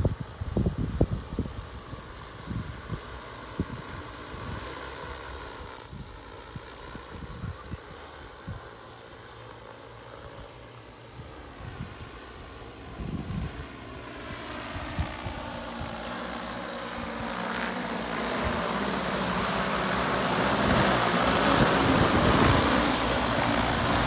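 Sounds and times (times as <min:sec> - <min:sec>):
wind rumbling on microphone: 0:00.0 - 0:04.8, 0:05.8 - 0:08.7, 0:11.1 - 0:24.0
drone rotors humming: 0:00.0 - 0:24.0.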